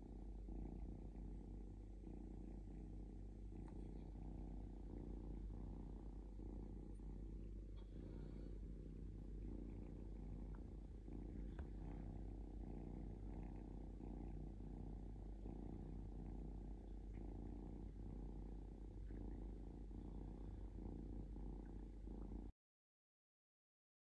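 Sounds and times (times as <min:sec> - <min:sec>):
kitten purring: 0:00.0 - 0:22.6.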